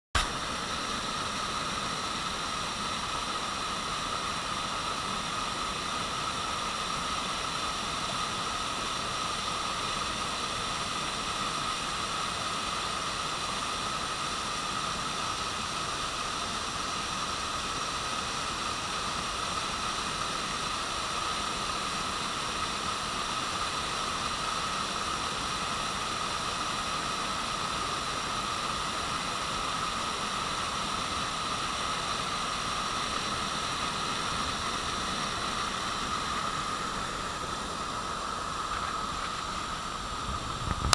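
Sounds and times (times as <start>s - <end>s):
water rushing over weir: 0.2s - 40.9s.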